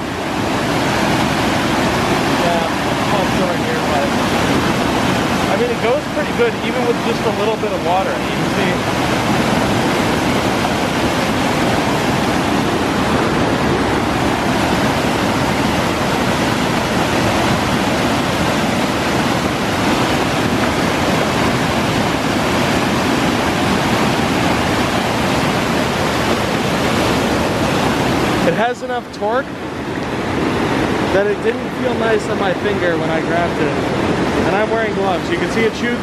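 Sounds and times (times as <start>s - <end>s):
whitewater rushing over a fall: 0.0s - 36.0s.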